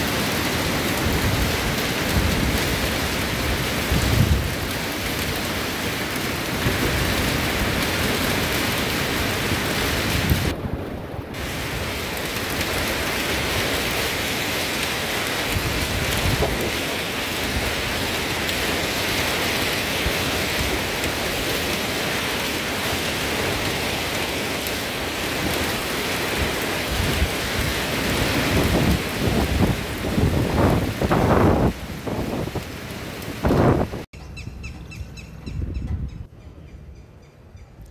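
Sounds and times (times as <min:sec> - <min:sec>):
heavy rain pouring: 0:00.0 - 0:34.1.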